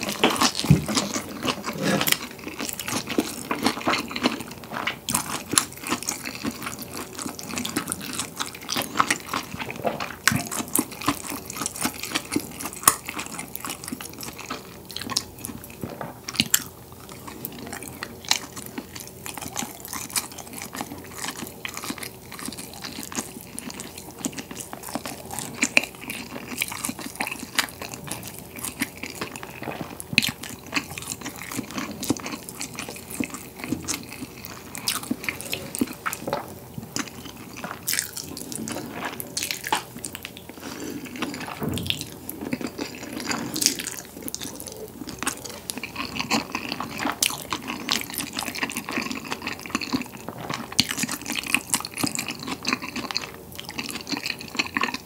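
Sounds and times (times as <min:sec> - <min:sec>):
chewing noodles close up: 0:00.0 - 0:55.0.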